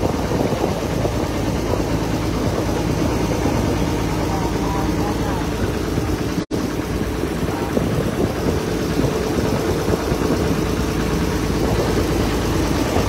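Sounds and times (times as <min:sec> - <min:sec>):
ferry engine droning: 0:00.0 - 0:13.0.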